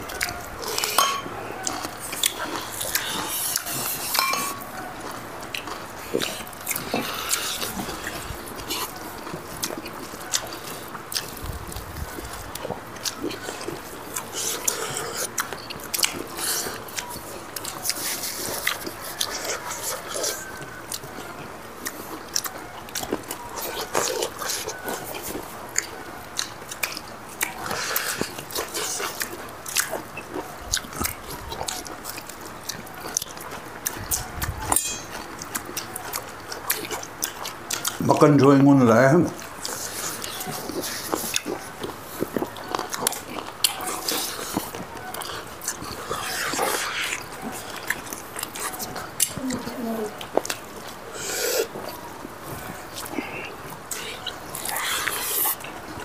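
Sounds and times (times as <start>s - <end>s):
people chewing and biting: 0.0s - 56.0s.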